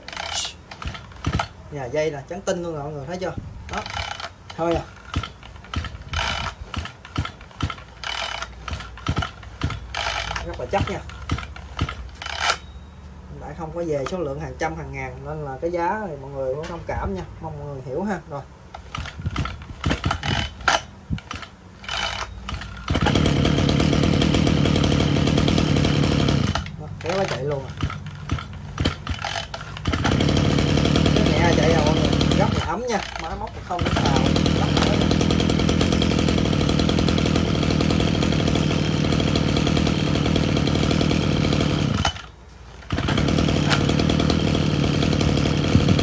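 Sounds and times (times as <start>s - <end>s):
recoil starter pull: 0.0s - 12.8s, 18.6s - 46.0s
brush-cutter engine running: 0.0s - 15.7s, 18.6s - 46.0s.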